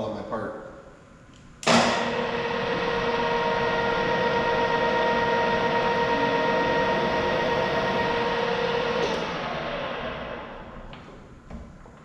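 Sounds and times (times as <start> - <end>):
drill press humming and whining: 1.6 - 11.3.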